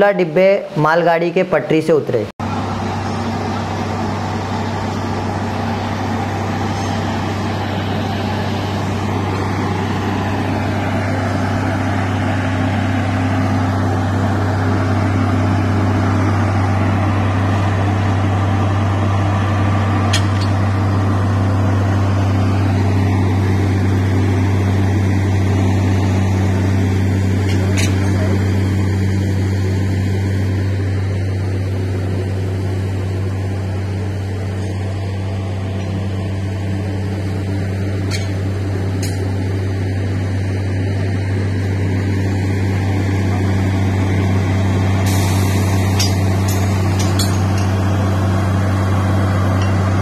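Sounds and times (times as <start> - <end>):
heavy machinery engine droning: 2.4 - 50.0.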